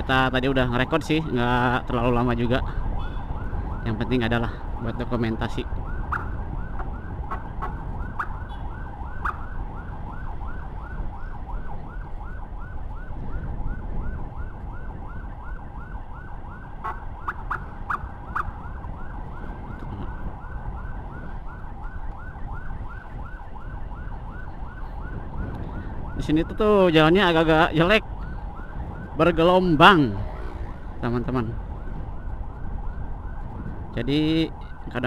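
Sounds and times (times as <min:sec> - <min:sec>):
wind: 0:00.0 - 0:35.0
electronic siren yelping: 0:02.8 - 0:04.0, 0:05.6 - 0:33.7, 0:34.4 - 0:35.0.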